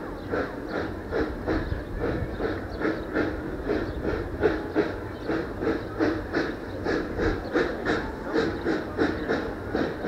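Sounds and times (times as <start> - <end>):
steam locomotive exhaust chuffing: 0.0 - 10.0.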